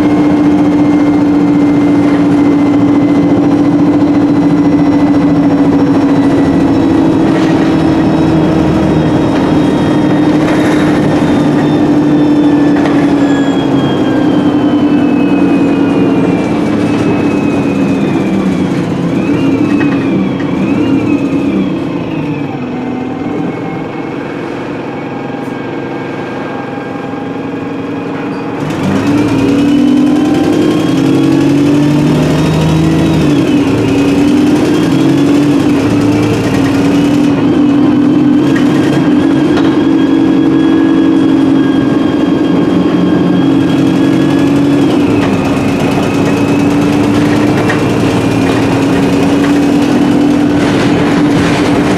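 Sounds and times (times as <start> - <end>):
bus diesel engine: 0.0 - 51.9
gearbox whine: 0.0 - 51.9.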